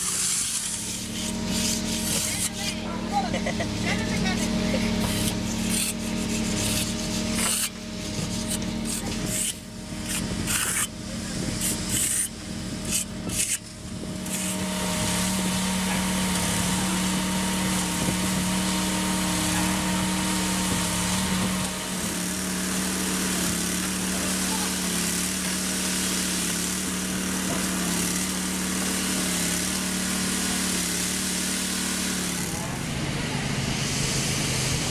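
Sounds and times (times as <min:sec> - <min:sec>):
machine engine droning: 0:00.0 - 0:34.9.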